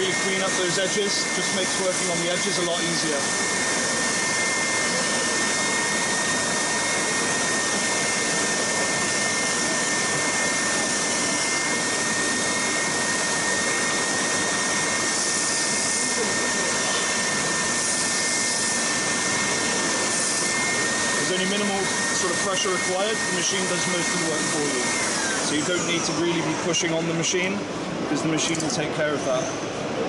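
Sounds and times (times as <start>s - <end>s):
sander whining: 0.0s - 27.1s.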